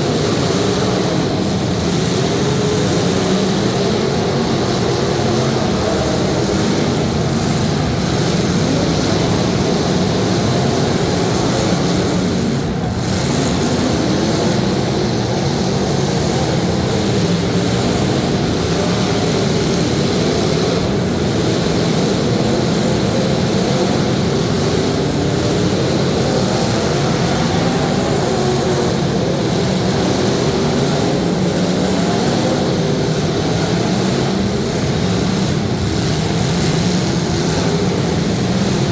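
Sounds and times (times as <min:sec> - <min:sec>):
car engines revving loudly: 0:00.0 - 0:38.9.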